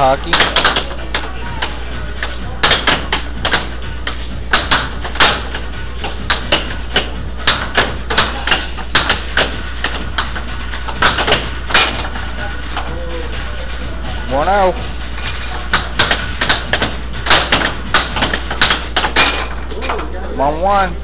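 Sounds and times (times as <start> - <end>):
steady background hum: 0.0 - 21.0
air hockey puck clacking: 0.2 - 12.9, 15.4 - 20.1.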